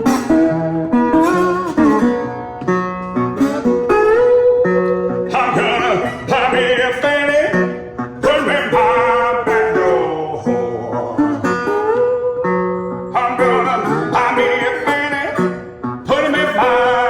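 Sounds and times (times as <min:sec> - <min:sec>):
fingerpicked acoustic guitar blues: 0:00.0 - 0:17.0.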